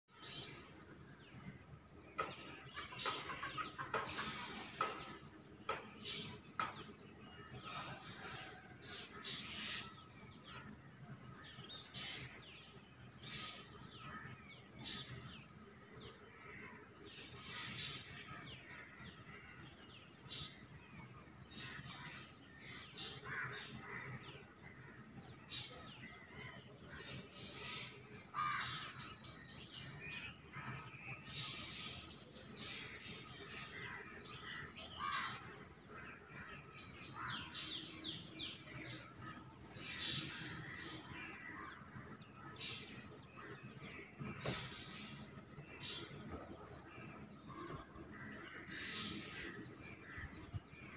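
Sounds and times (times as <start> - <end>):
many birds chirping: 0.1 - 50.9.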